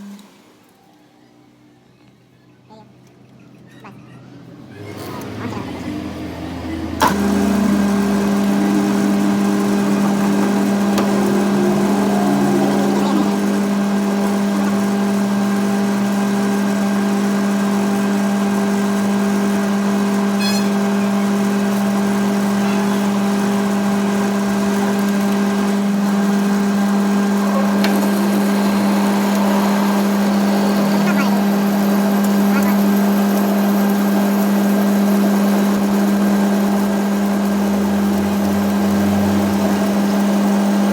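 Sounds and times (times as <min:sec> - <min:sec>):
machine motor humming: 0:04.4 - 0:40.9.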